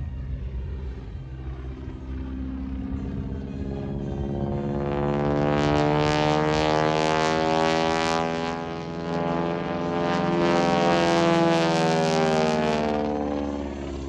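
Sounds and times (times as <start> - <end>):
propeller planes flying past: 0.0 - 14.0.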